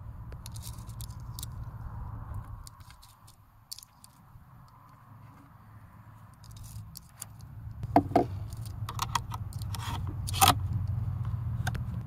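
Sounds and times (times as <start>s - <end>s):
metallic clicks and scrapes: 0.3s - 5.6s, 6.2s - 11.0s.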